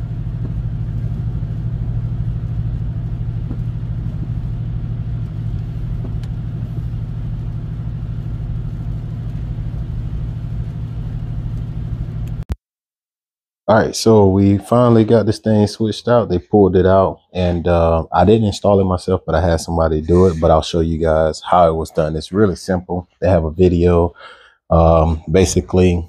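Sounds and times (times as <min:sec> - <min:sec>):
low exhaust rumble: 0:00.0 - 0:12.4, 0:13.7 - 0:24.0.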